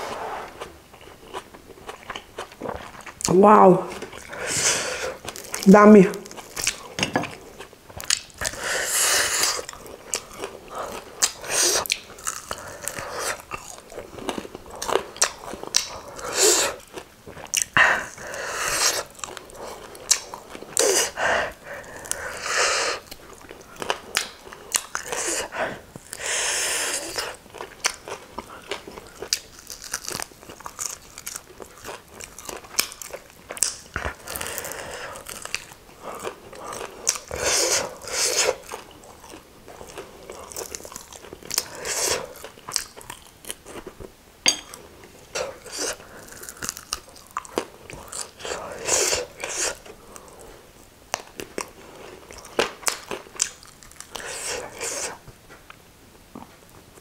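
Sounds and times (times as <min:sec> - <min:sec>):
eating and chewing chicken: 0:00.0 - 0:55.3.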